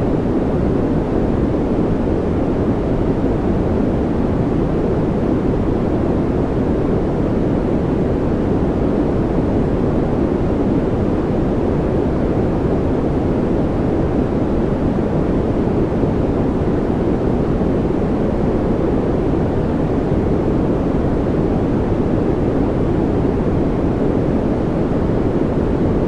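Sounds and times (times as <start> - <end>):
white noise: 0.0 - 26.0.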